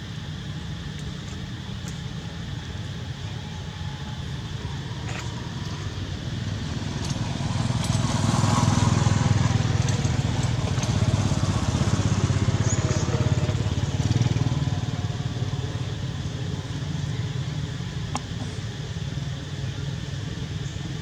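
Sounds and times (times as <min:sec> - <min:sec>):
small engine running: 0:00.3 - 0:21.0.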